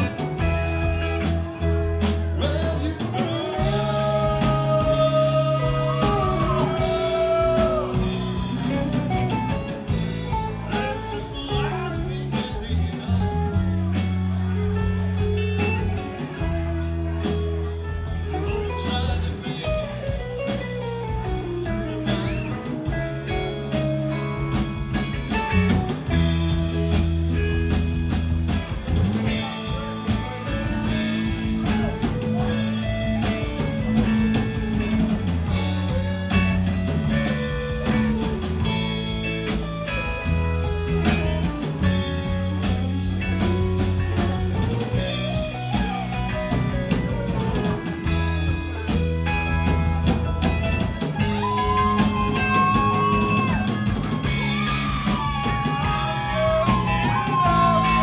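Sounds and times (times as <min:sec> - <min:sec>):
rock band playing: 0:00.0 - 0:58.0
sliding lead guitar line: 0:00.0 - 0:58.0.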